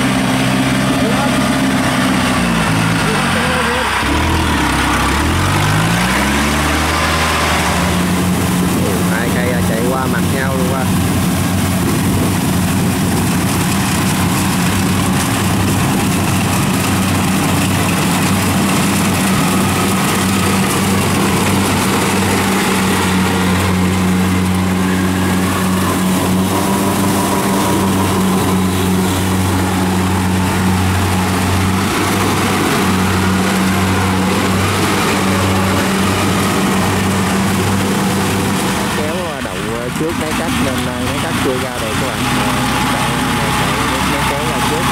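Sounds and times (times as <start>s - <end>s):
combine harvester diesel engine drone: 0.0s - 44.9s.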